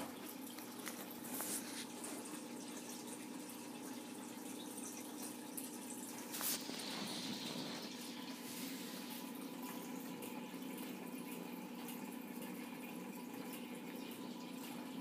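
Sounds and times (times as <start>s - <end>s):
tiny water drips: 0.0s - 8.4s, 9.0s - 15.0s
aquarium water bubbling: 0.0s - 15.0s.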